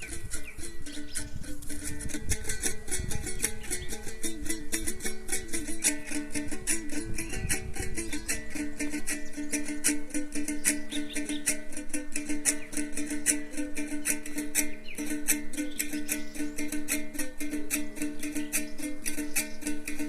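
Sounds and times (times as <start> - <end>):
plucked string instrument music: 0.0 - 20.0.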